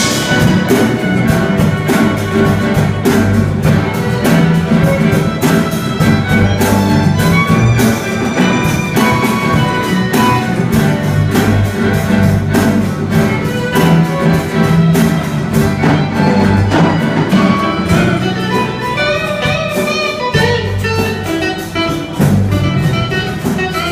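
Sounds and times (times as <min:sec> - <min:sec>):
music with steady beat and bass: 0:00.0 - 0:23.9.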